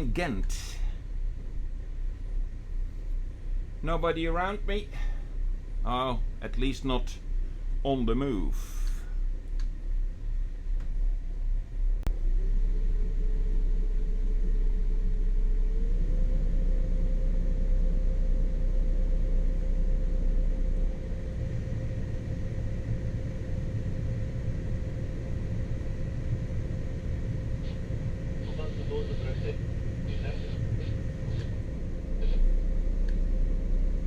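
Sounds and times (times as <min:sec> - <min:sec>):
boat engine rumbling: 0:00.0 - 0:34.0
engine whine: 0:00.0 - 0:34.0.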